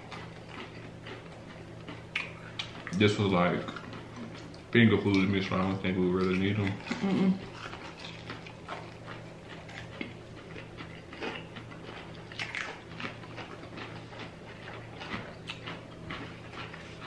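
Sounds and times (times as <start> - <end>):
faint low hum: 0.0 - 17.0
people chewing and crunching food: 0.0 - 17.0.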